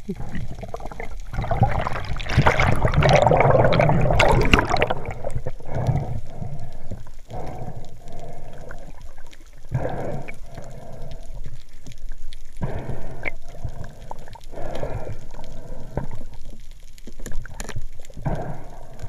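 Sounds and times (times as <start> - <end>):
muffled underwater rushing: 0.0 - 19.0.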